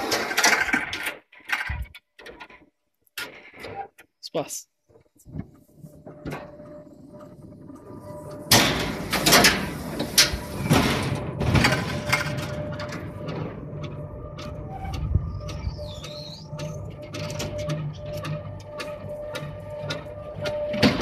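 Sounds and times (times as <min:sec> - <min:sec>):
coaster sled rattling on rails: 0:00.0 - 0:02.7, 0:04.9 - 0:21.0.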